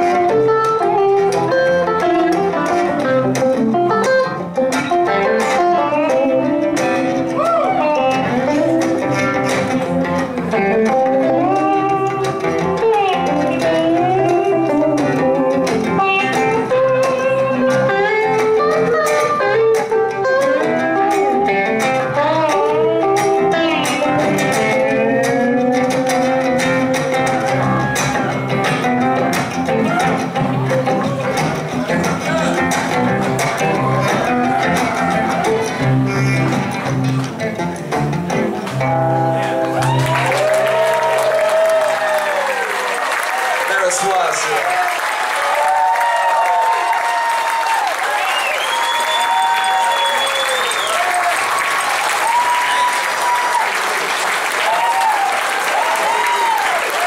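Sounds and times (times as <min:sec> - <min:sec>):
electric guitars playing blues-rock: 0:00.0 - 0:57.0.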